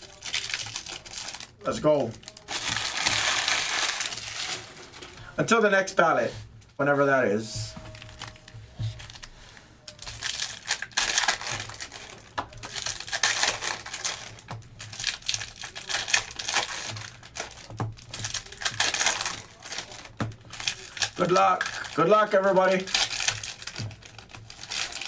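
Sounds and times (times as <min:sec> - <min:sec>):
foil wrappers crinkling: 0:00.0 - 0:05.3, 0:07.6 - 0:25.0.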